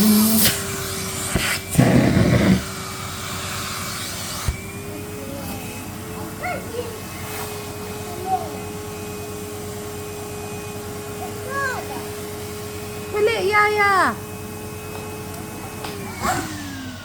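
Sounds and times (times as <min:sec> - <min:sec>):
vacuum cleaner humming: 0:00.0 - 0:17.0.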